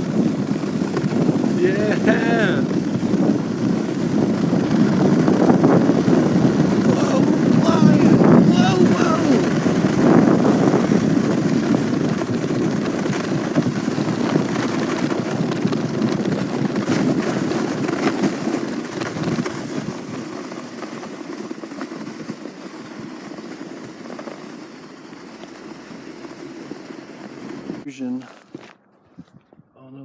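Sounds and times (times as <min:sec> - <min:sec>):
sled sliding over snow: 0:00.0 - 0:28.7.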